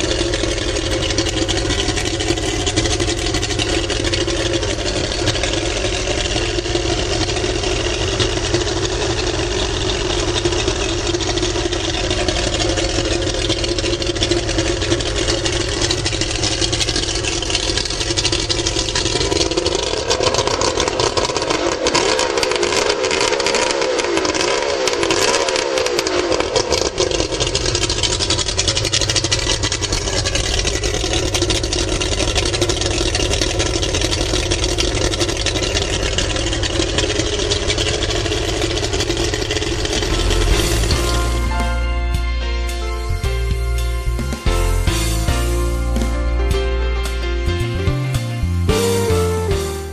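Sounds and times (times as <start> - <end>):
outboard motor idling: 0.0 - 49.9.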